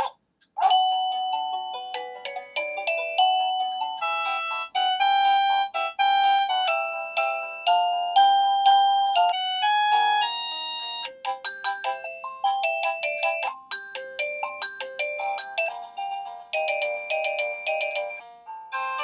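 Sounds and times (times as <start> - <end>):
doorbell chime melodies: 0.6 - 19.0.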